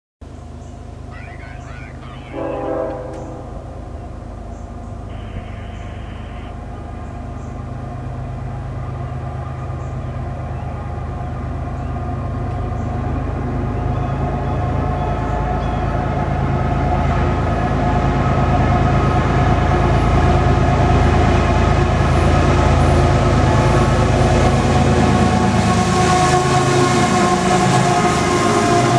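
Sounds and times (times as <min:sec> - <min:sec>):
freight train engine drone: 0:00.2 - 0:28.9.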